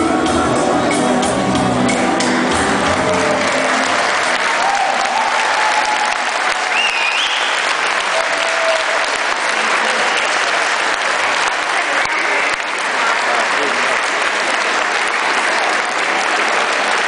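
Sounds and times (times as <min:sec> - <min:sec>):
audience applauding: 0:01.9 - 0:17.0.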